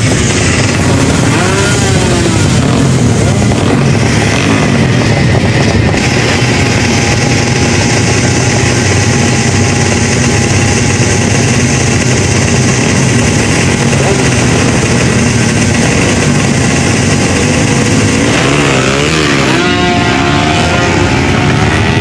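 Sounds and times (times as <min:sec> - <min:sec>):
motorcycle engine running loudly: 0:00.0 - 0:22.0.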